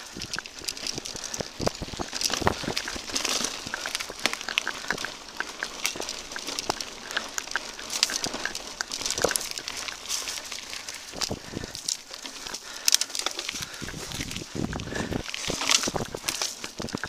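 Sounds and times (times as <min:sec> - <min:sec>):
bike tyres crunching over soil: 0:00.0 - 0:17.0
small clicks and rattles: 0:00.0 - 0:17.0.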